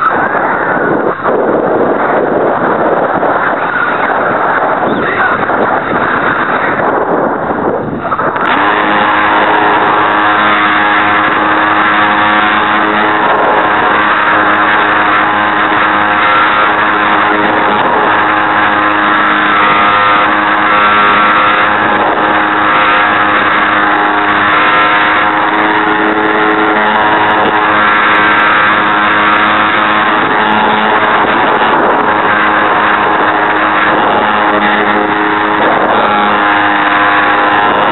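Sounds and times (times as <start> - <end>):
electric motor and propeller drone: 0.0 - 37.9
wind rushing over microphone: 0.0 - 37.9.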